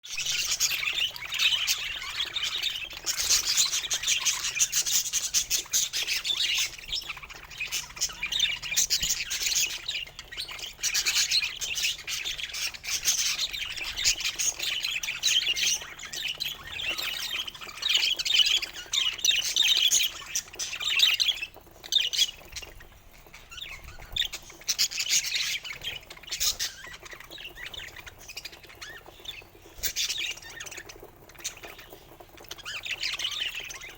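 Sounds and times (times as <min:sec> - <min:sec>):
budgerigars chirping and chattering: 0:00.1 - 0:33.9.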